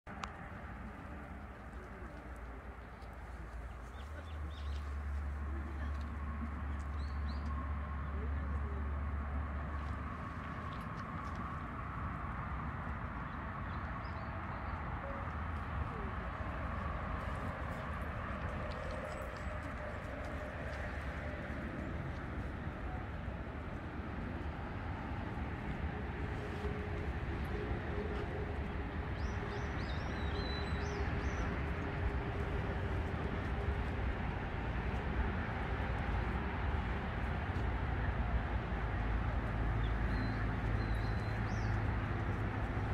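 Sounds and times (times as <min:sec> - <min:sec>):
low outdoor rumble: 0:00.1 - 0:42.9.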